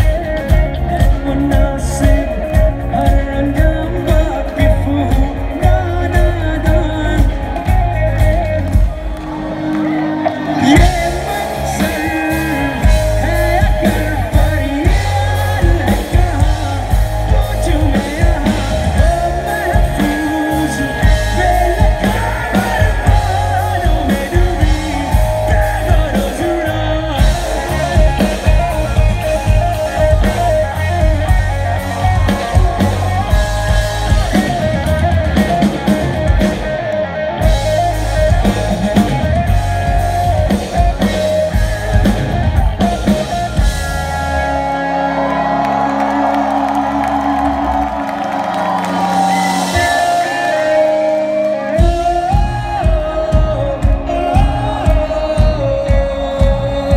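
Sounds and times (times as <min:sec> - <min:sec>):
person singing lead vocal: 0:00.0 - 0:43.6, 0:45.0 - 0:56.9
drum kit: 0:00.0 - 0:56.9
electric guitar: 0:00.0 - 0:56.9.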